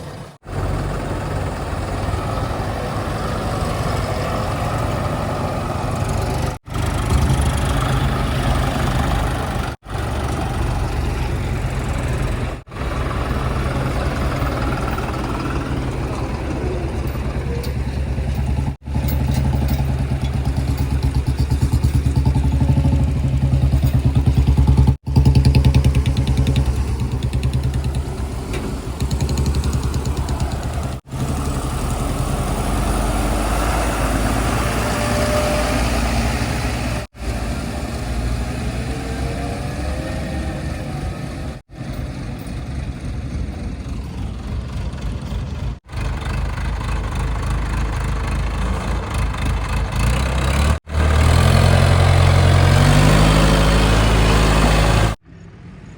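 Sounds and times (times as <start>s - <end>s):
diesel engines humming: 0.0s - 55.9s.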